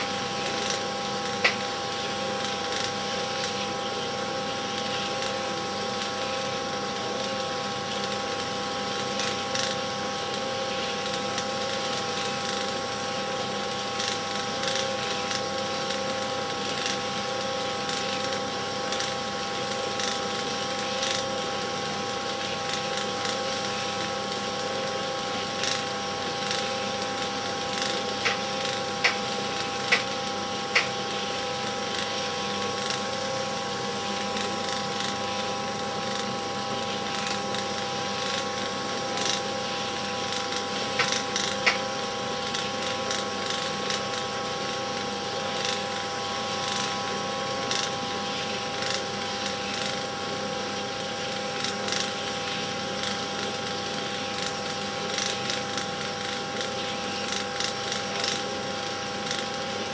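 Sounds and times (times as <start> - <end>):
film projector motor hum: 0.0 - 59.9.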